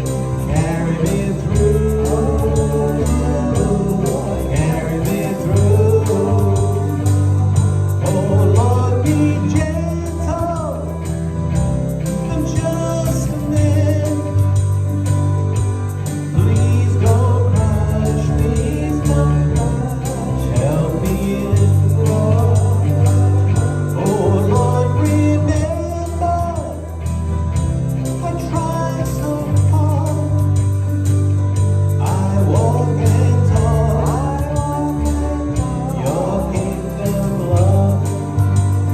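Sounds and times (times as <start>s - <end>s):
person singing: 0.0s - 11.2s, 12.0s - 14.9s, 16.0s - 27.1s, 28.0s - 31.0s, 31.9s - 38.9s
church band playing: 0.0s - 38.9s
sustained bass notes: 0.0s - 38.9s.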